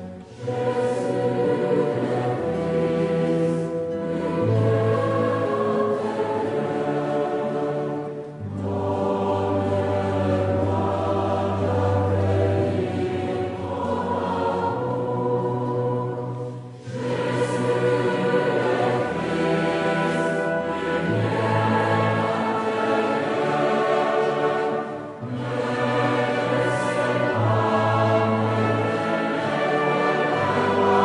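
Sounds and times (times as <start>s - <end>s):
choir singing slow chords: 0.0s - 31.0s.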